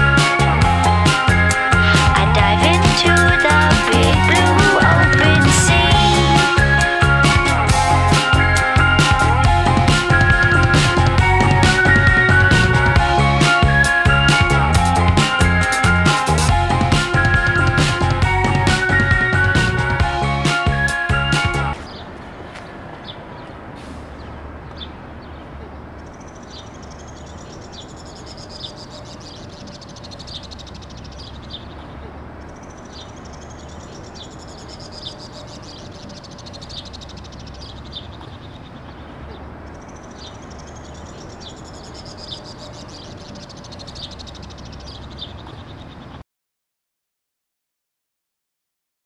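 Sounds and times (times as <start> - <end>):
birds chirping: 0.0 - 46.2.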